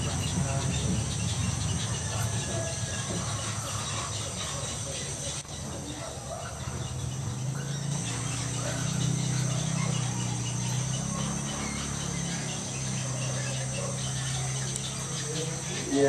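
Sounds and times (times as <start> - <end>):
insect chorus drone: 0.0 - 16.0
low steady hum: 0.0 - 16.0.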